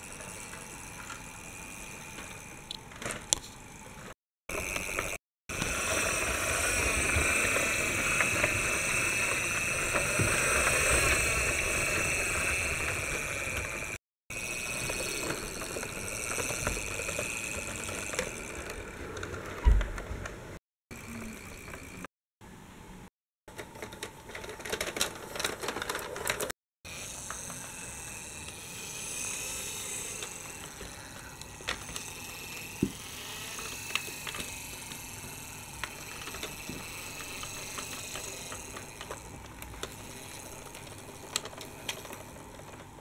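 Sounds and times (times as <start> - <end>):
toy trains rolling rattle: 0.0 - 19.6, 20.9 - 22.1, 23.5 - 43.0.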